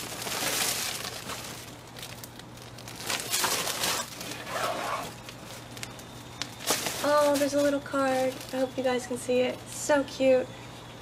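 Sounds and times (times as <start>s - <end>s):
plastic and tissue paper rustling: 0.0s - 9.4s.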